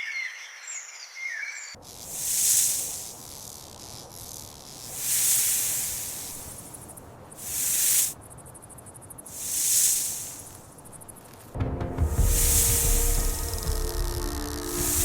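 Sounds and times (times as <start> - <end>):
snake hissing: 1.8 - 11.2, 12.0 - 15.0
rattlesnake tail rattle buzz: 1.8 - 11.4, 12.0 - 15.0.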